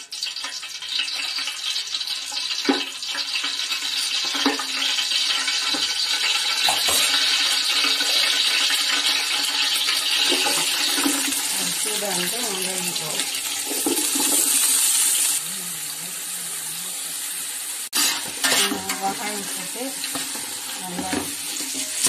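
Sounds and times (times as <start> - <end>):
oil sizzling in a metal pot: 0.0 - 22.0.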